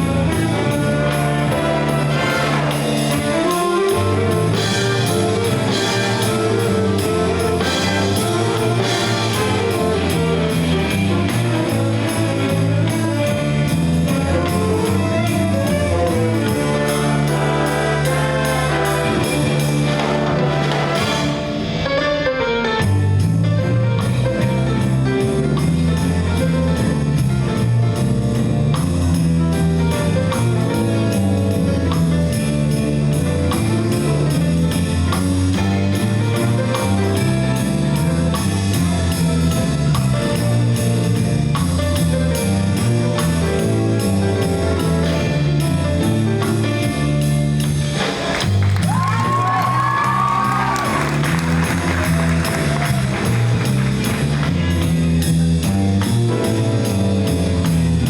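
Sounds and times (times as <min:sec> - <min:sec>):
jazz ensemble playing: 0:00.0 - 0:58.0.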